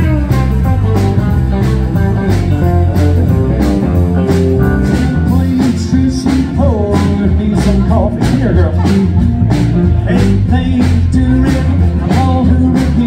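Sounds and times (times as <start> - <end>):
bent guitar notes: 0.0 - 13.0
country band playing: 0.0 - 13.0.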